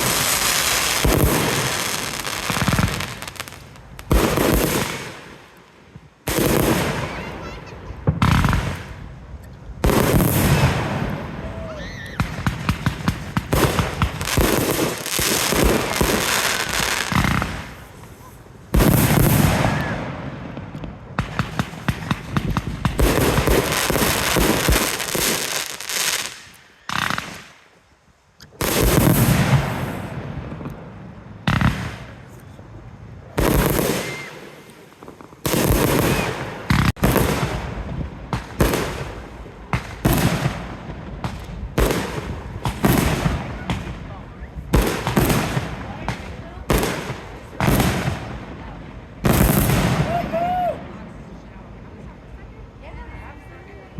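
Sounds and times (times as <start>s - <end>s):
big firework bangs: 0.0s - 5.5s, 6.2s - 9.2s, 9.8s - 27.6s, 28.6s - 32.4s, 33.2s - 51.2s
fireworks crackling and popping: 0.0s - 53.9s.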